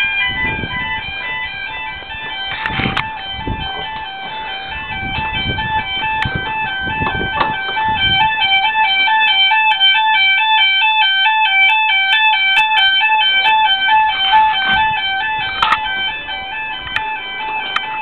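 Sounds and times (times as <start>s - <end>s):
two-tone fire alarm: 0.0s - 18.0s.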